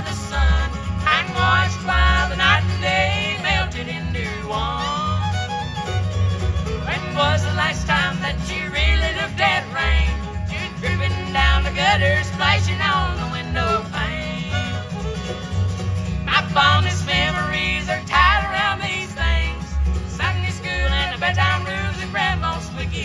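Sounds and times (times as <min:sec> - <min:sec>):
acoustic guitar: 0:00.0 - 0:23.0
fiddle melody: 0:00.0 - 0:23.0
mandolin: 0:00.0 - 0:23.0
upright bass notes: 0:00.0 - 0:23.0.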